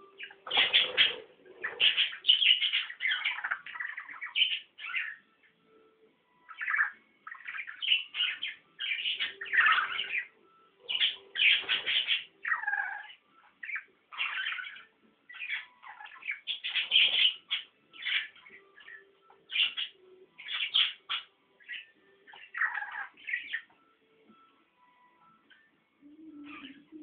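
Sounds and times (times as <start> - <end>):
budgerigars chattering: 0.2 - 5.2, 6.5 - 23.7.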